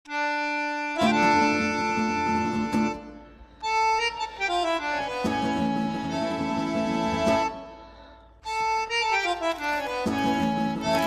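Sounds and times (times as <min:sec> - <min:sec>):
instrumental background music: 0:00.1 - 0:11.0.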